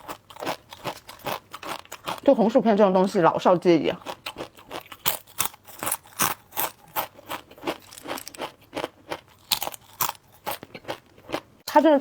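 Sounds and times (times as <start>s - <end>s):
chips crunching as chewed: 0.0s - 2.3s, 4.0s - 11.5s.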